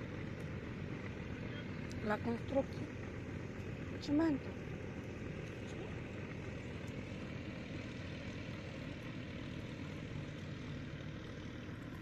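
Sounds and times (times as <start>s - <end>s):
boat diesel engine drone: 0.0s - 12.0s.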